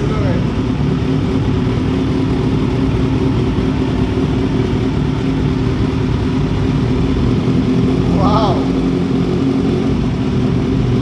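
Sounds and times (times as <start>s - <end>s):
motorcycle engine running loud: 0.0s - 11.0s.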